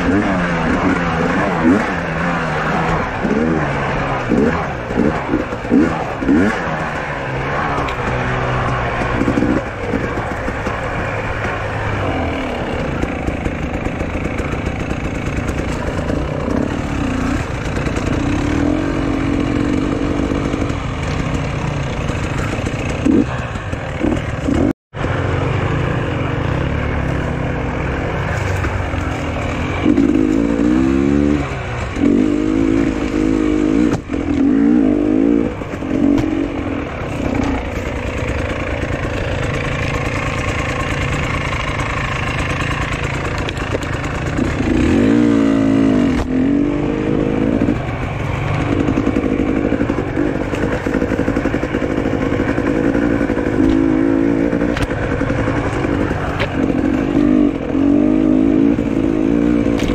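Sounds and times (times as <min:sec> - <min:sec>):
motorcycle engine revving: 0:00.0 - 0:59.9
riding noise: 0:00.0 - 0:59.9.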